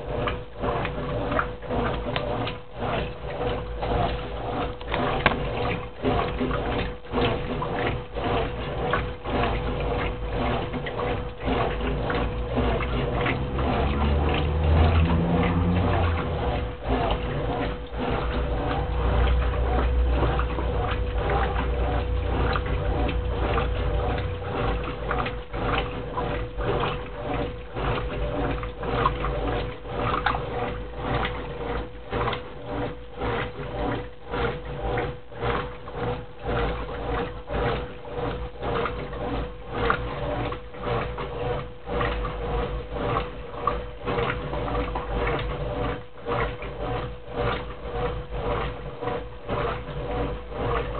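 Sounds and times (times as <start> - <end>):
washing machine motor hum: 0.0 - 50.9
water sloshing rhythmically: 0.0 - 50.9.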